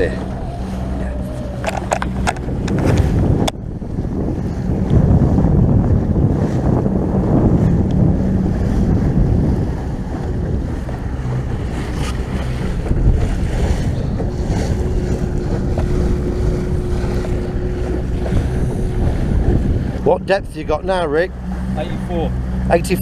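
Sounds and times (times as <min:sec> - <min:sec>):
outboard motor: 0:00.0 - 0:23.0
water rushing past boat hull: 0:00.0 - 0:23.0
wind buffeting microphone: 0:00.0 - 0:23.0.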